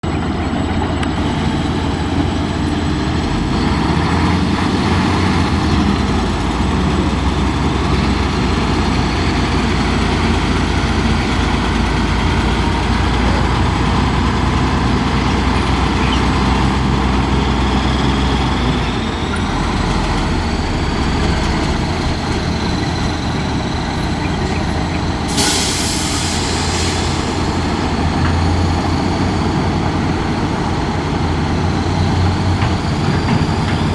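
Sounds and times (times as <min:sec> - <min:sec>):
truck engine rumbling: 0:00.0 - 0:33.9.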